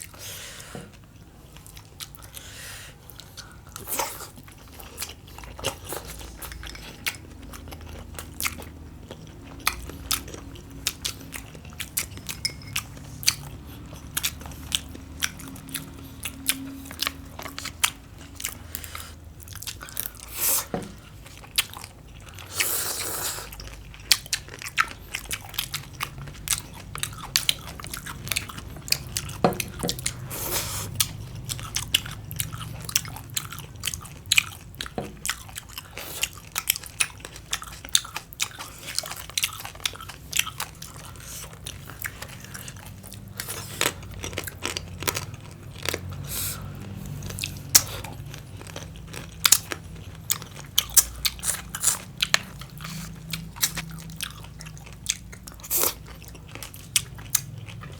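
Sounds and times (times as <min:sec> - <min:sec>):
person chewing crunchy food: 0:00.0 - 0:57.9.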